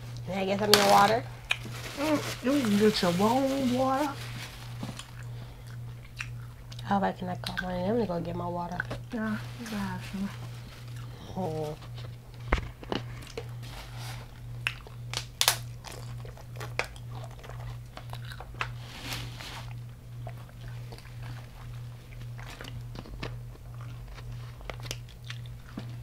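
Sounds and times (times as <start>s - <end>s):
steady low hum: 0.0s - 26.0s
chewing crunchy fried food: 1.2s - 2.1s, 4.2s - 7.8s, 8.7s - 26.0s.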